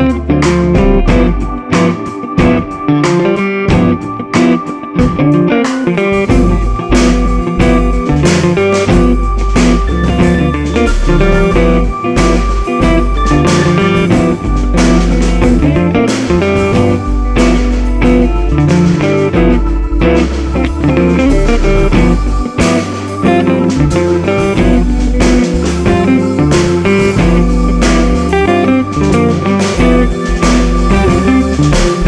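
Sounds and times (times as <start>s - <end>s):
guitar-led instrumental music: 0.0s - 32.0s.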